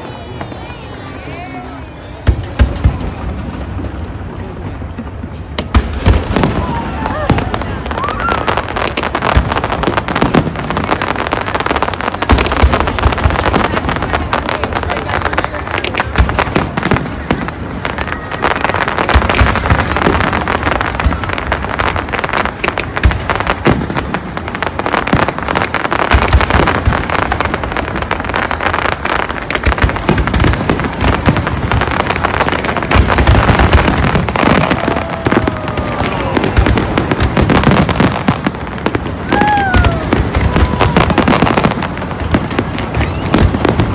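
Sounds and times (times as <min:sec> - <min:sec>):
deep firework booms: 0:00.0 - 0:43.9
fireworks bangs and crackling: 0:00.0 - 0:43.9.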